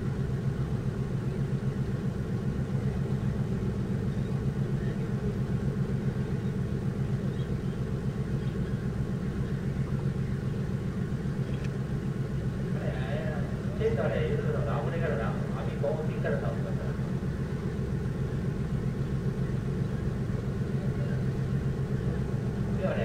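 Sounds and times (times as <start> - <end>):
diesel boat engine idling: 0.0 - 23.0.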